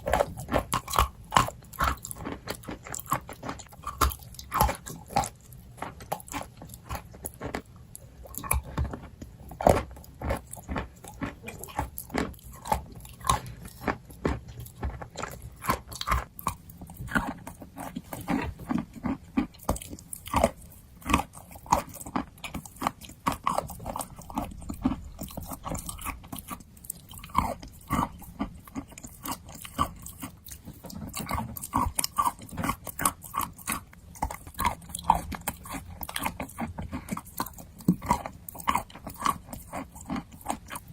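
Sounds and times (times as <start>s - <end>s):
person chewing crunchy chalk: 0.0s - 40.9s.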